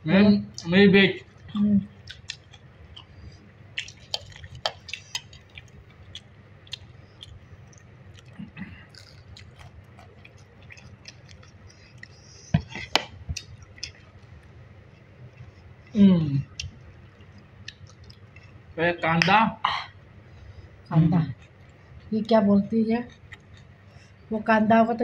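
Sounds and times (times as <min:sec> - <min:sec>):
soft chewing: 0:00.5 - 0:18.8, 0:19.7 - 0:22.3, 0:23.0 - 0:24.3.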